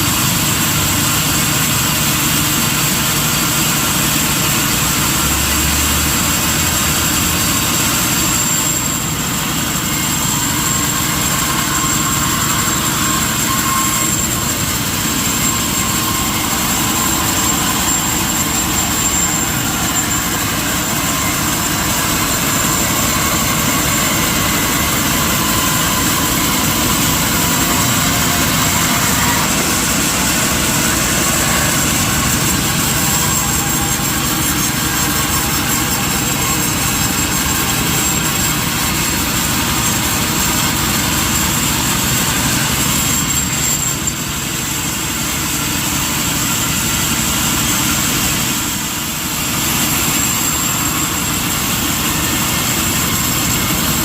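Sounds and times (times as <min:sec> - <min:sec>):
sawmill machinery running: 0:00.0 - 0:54.0
thin high whine: 0:00.0 - 0:54.0.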